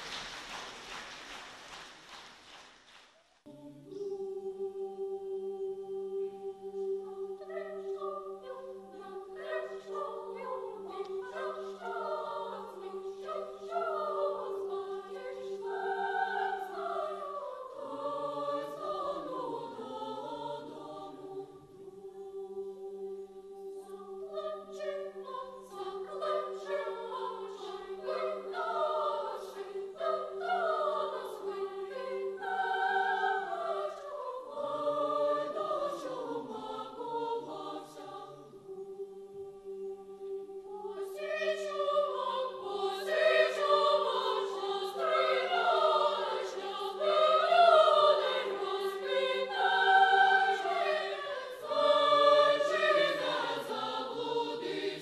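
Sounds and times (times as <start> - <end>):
children's choir singing: 3.4 - 55.0.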